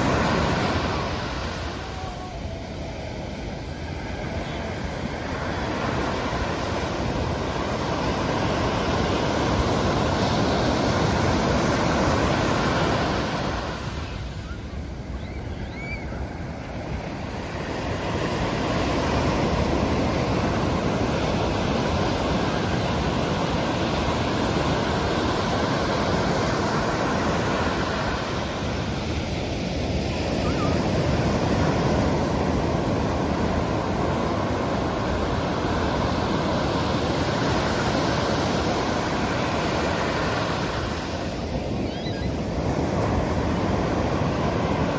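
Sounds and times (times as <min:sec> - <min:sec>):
surf breaking on beach: 0:00.0 - 0:44.9.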